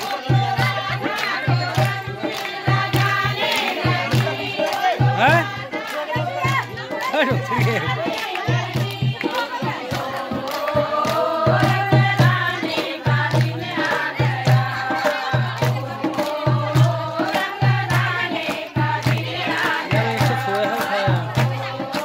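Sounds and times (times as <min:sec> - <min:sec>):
handclaps: 0:00.0 - 0:22.0
women singing folk song: 0:00.0 - 0:22.0
low drum beat: 0:00.2 - 0:22.0.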